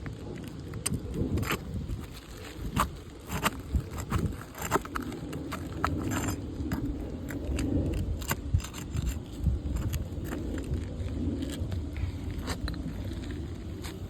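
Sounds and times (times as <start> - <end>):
steady low rumble: 0.0 - 14.0
metal tool scraping roof shingles: 1.3 - 14.0.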